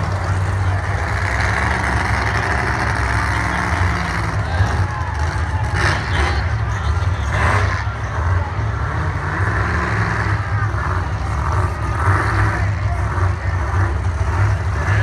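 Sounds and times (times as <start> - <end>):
crowd voices: 0.0 - 15.0
truck engine deep rumble: 0.0 - 15.0.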